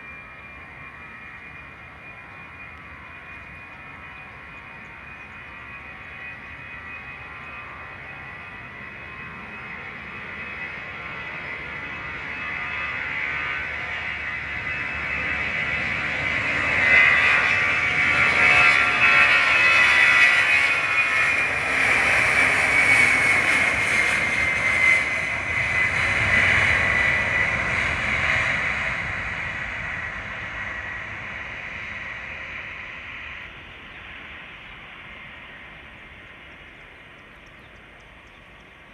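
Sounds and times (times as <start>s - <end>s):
jet engines passing: 0.0s - 38.9s.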